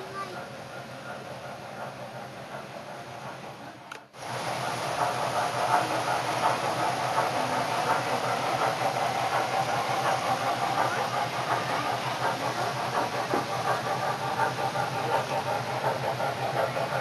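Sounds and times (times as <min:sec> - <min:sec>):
model train motor hum: 0:00.0 - 0:17.0
wheels clicking on rails: 0:00.0 - 0:17.0.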